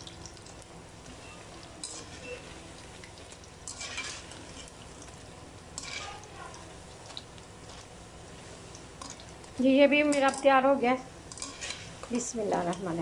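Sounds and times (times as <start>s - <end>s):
batter deep-frying in hot oil: 0.0s - 13.0s.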